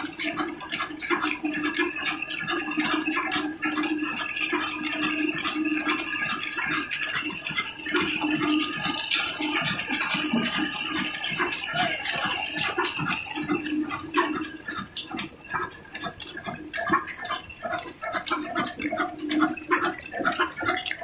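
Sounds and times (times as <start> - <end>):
rhythmic mechanical clatter: 0.0 - 21.0.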